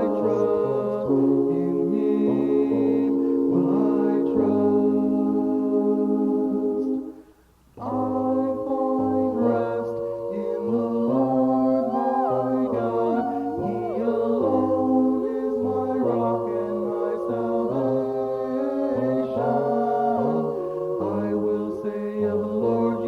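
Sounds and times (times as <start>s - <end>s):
choir-like vocal chords: 0.0s - 23.0s.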